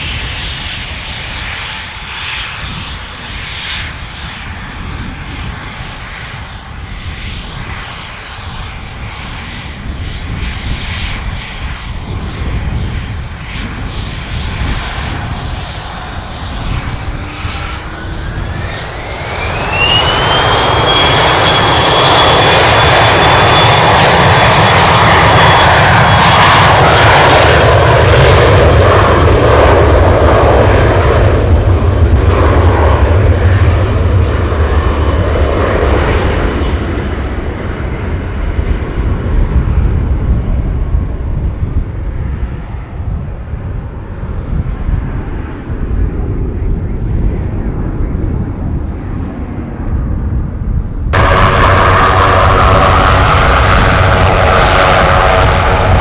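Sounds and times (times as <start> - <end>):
aircraft engine roar: 0.0 - 56.0
aircraft engine whine: 0.0 - 56.0.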